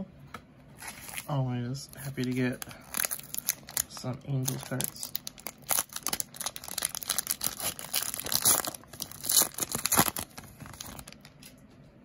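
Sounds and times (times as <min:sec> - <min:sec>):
wrapper tearing and crinkling: 0:00.8 - 0:11.5.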